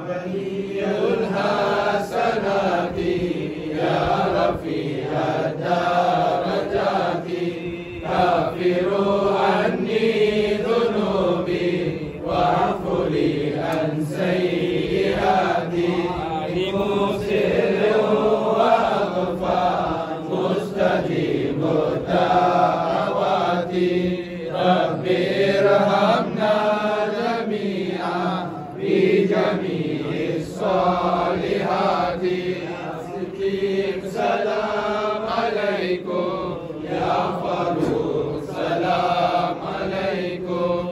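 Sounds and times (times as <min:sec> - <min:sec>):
men chanting: 0:00.0 - 0:40.9.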